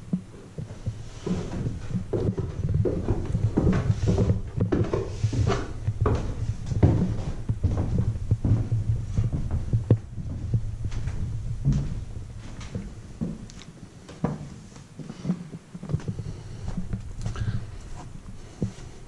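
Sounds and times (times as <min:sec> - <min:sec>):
steady low rumble: 0:00.0 - 0:14.1, 0:15.6 - 0:19.0
footsteps on wooden floor: 0:00.0 - 0:19.0.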